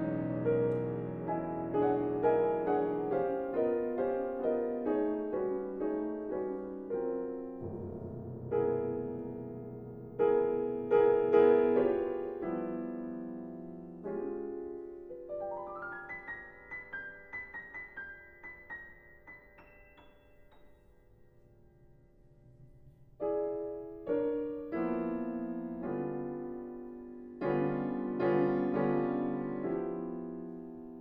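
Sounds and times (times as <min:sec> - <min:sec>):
grand piano playing: 0:00.0 - 0:21.6, 0:22.7 - 0:31.0.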